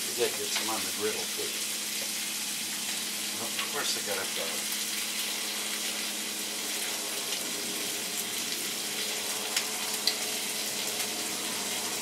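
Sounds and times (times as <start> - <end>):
chicken wings sizzling on griddle: 0.0 - 12.0.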